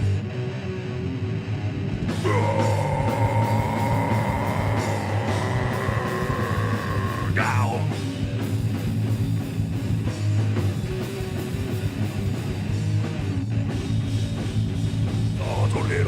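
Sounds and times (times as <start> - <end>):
electric guitar: 0.0 - 16.0
bass line: 1.1 - 16.0.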